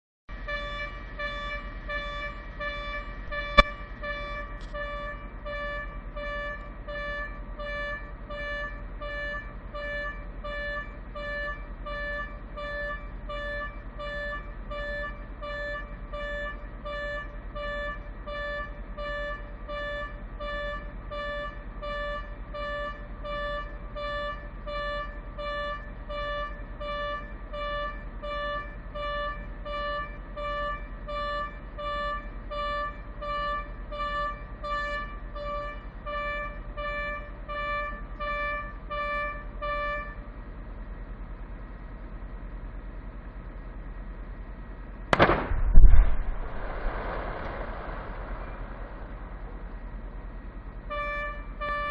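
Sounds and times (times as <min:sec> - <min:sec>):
warning horn toots: 0:00.3 - 0:40.4, 0:47.5 - 0:51.9.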